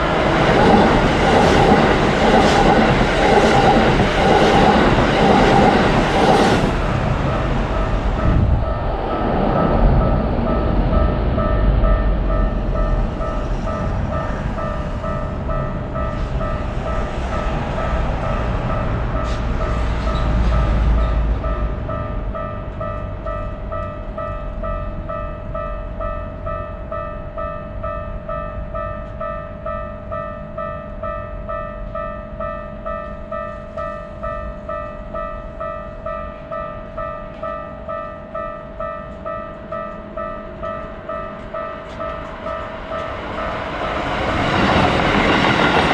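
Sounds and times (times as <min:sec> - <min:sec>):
railroad crossing warning bell: 0:00.0 - 0:45.9
train rumbling past: 0:00.0 - 0:45.9.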